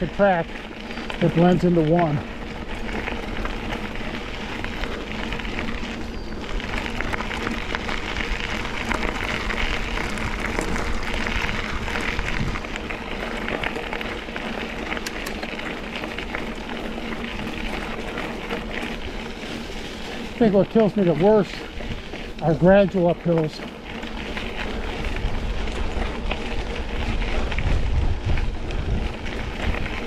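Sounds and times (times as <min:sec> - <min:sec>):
bike clicks and rattles: 0:00.0 - 0:30.0
bike tyres crunching on gravel: 0:00.0 - 0:30.0.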